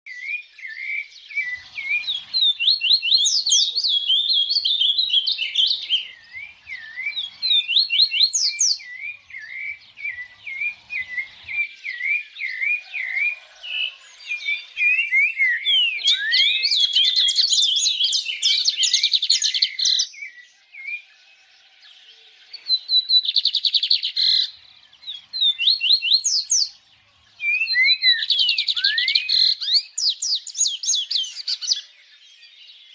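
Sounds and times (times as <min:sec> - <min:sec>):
songbird singing trills: 0:00.1 - 0:32.9.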